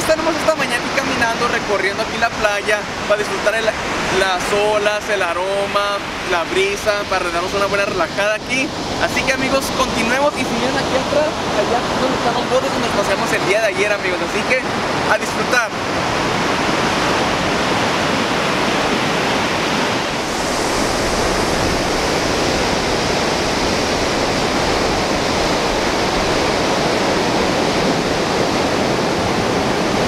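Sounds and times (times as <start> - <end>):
ocean waves breaking on beach: 0.0 - 30.0.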